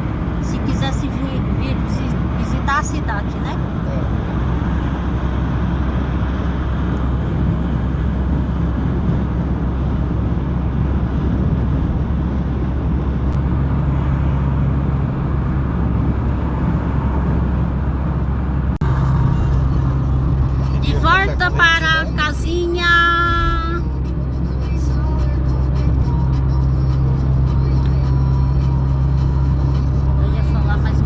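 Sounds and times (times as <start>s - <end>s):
engine and tyre drone: 0.0s - 31.0s
wind and road hiss: 0.0s - 31.0s.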